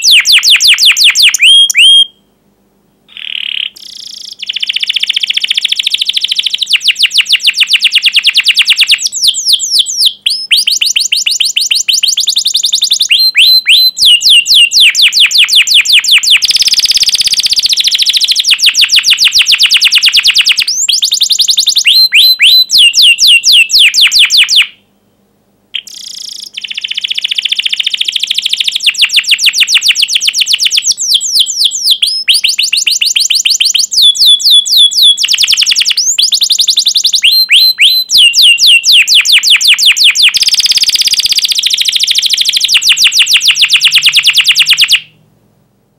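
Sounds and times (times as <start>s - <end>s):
canary singing: 0.0s - 2.3s, 3.1s - 24.9s, 25.8s - 45.2s.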